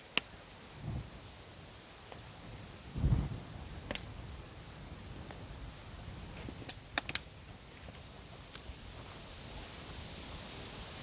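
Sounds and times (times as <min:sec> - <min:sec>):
fire crackling pops: 0:00.0 - 0:11.0
rush of flame: 0:00.0 - 0:11.0
wind: 0:00.0 - 0:11.0.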